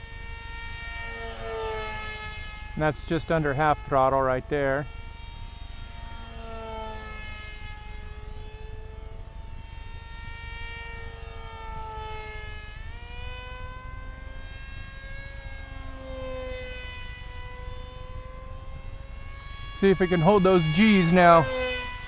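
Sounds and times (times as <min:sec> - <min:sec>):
electric motor and fan whining: 0:00.0 - 0:22.0.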